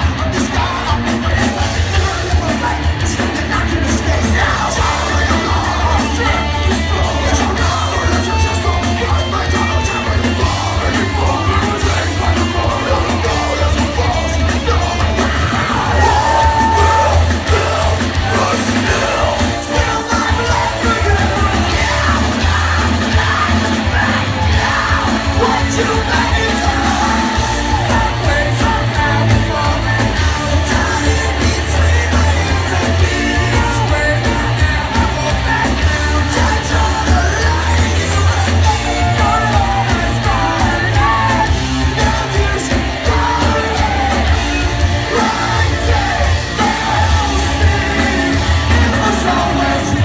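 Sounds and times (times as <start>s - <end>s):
live rock band playing loud: 0.0s - 50.0s
singer yelling and singing: 0.0s - 50.0s.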